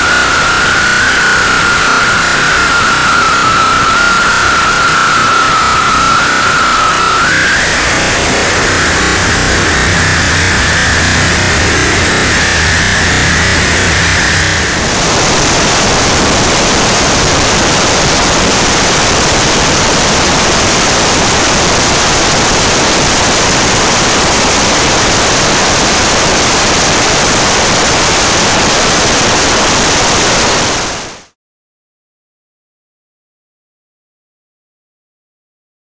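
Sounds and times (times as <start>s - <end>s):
steady rushing hiss: 0.0s - 31.1s.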